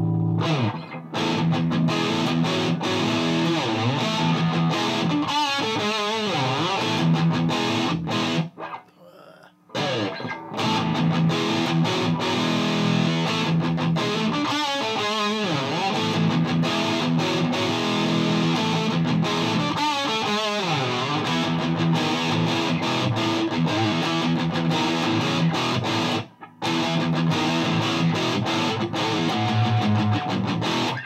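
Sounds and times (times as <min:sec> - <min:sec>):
distorted electric guitar riffs: 0:00.0 - 0:31.0.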